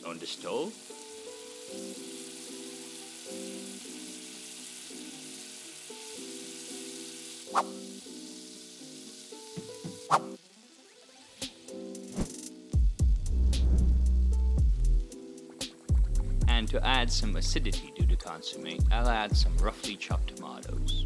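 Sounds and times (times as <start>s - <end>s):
onion sizzling on hob: 0.0s - 21.0s.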